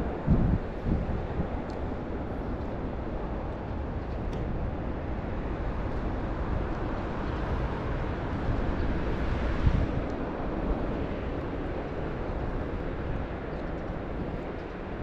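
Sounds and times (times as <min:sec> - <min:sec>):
city background rush: 0:00.0 - 0:15.0.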